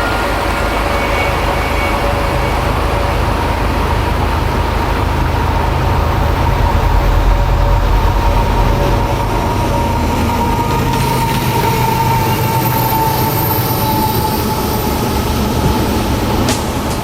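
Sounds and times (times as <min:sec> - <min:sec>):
thin whining tones: 0:00.0 - 0:16.6
train rumbling by: 0:00.0 - 0:17.0.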